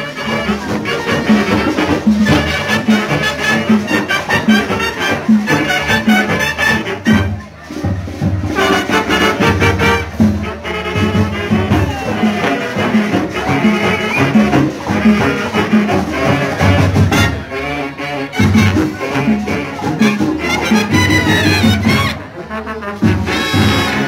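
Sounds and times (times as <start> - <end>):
marching band playing latin dance: 0.0 - 24.0.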